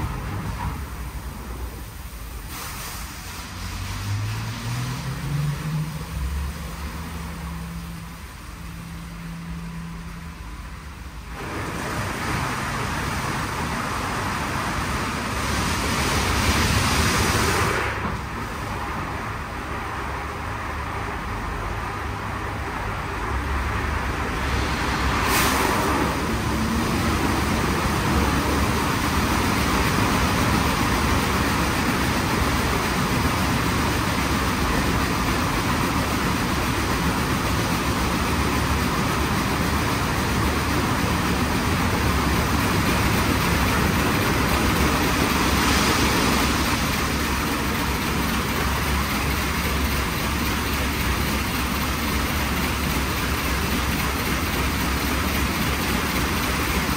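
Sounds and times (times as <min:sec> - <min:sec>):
car wash machine running: 0:00.0 - 0:56.9
hiss: 0:00.4 - 0:08.1, 0:11.4 - 0:18.7, 0:24.3 - 0:56.9.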